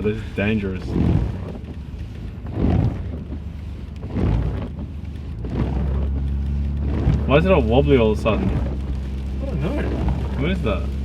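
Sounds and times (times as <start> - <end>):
car engine running: 0.0 - 11.0
road noise: 0.0 - 11.0
windscreen wipers sweeping: 0.0 - 11.0.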